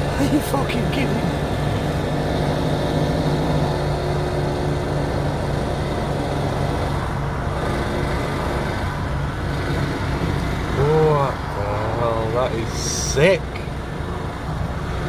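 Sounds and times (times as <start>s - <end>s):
mower engine drone: 0.0s - 15.0s
road traffic: 0.0s - 15.0s.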